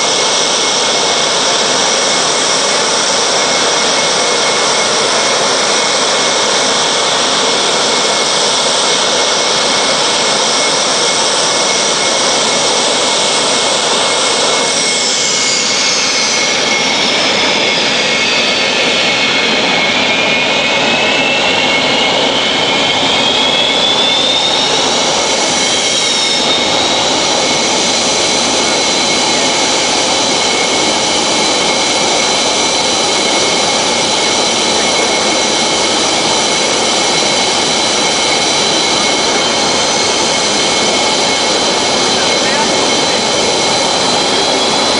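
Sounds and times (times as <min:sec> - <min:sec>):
high jet engine whines: 0:00.0 - 0:44.9
jet engines roaring: 0:00.0 - 0:44.9.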